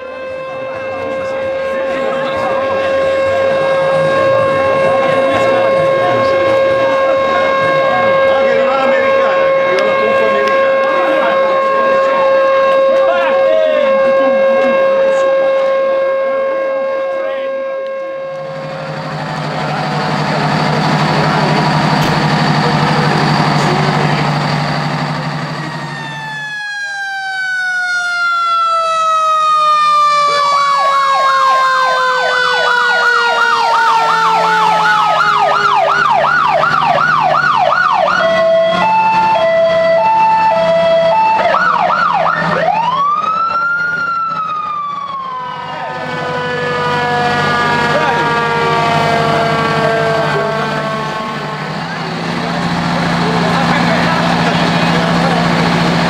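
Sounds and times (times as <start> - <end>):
electronic siren warbling: 0.0 - 56.0
loud steady siren blast: 0.0 - 56.0
siren whine falling in pitch: 0.0 - 56.0.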